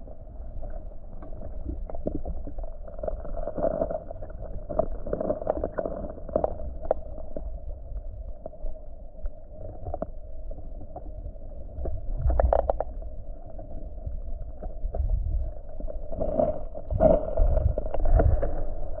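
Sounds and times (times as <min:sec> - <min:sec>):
muffled water rumble: 0:00.0 - 0:19.0.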